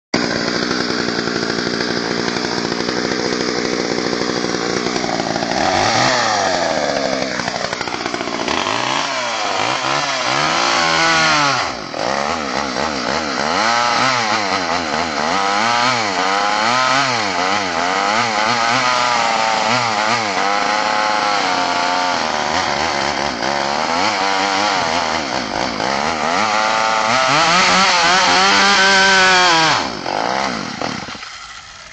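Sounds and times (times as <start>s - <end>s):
chainsaw cutting through couch: 0.2s - 31.9s.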